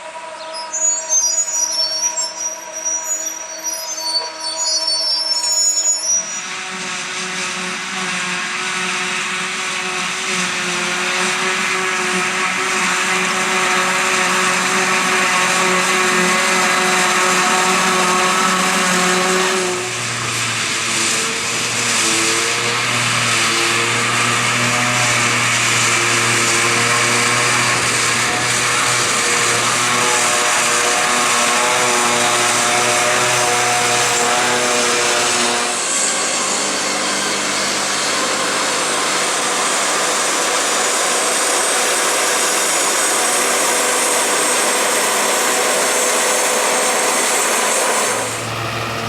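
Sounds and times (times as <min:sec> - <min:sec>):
forage harvester and tractor engines: 0:00.0 - 0:49.0
whirring of chopping machinery: 0:06.1 - 0:49.0.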